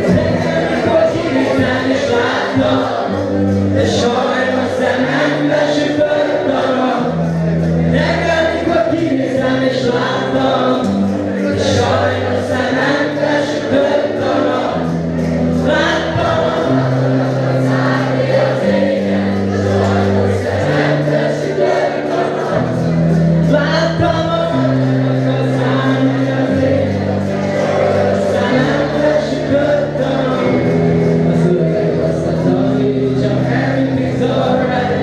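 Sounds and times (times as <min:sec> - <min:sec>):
bass line: 0:00.0 - 0:35.0
rock band playing live: 0:00.0 - 0:35.0.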